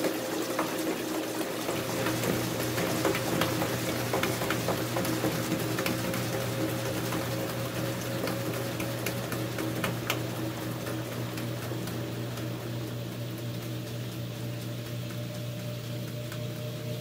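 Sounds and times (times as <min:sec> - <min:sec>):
washing machine drum spinning: 0:00.0 - 0:17.0.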